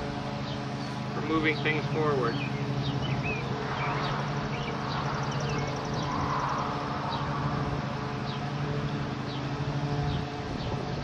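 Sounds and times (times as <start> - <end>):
birds chirping: 0.0 - 11.0
honeybees humming: 0.0 - 11.0.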